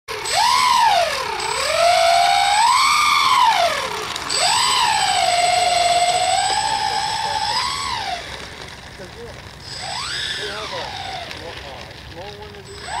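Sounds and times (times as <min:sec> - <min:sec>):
model plane propeller motors: 0:00.1 - 0:13.0.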